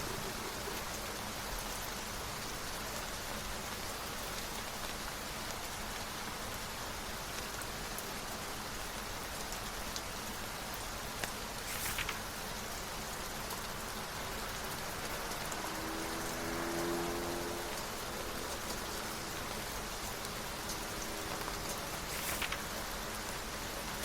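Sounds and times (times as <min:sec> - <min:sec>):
rain falling on a surface: 0:00.0 - 0:24.0.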